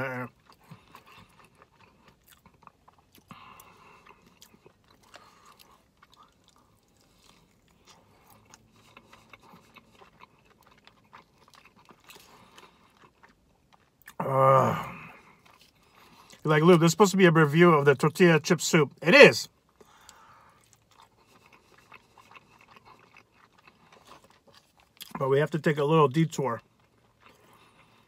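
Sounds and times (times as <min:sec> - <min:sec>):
chewing crunchy fried chicken: 0:00.0 - 0:28.0.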